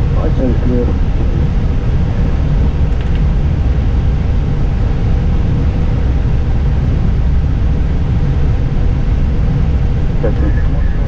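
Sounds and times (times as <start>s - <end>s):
engine and air-conditioning rumble: 0.0s - 11.0s
faint steady hum: 0.0s - 11.0s.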